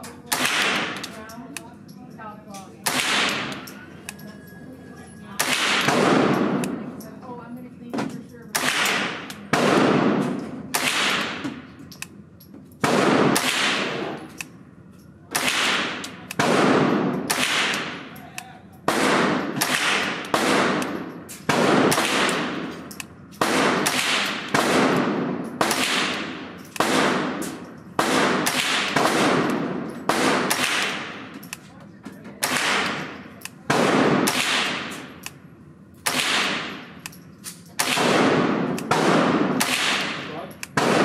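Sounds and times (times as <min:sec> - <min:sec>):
rifle shots echoing indoors: 0:00.0 - 0:04.2, 0:05.3 - 0:07.1, 0:07.9 - 0:14.6, 0:15.3 - 0:31.7, 0:32.4 - 0:41.0.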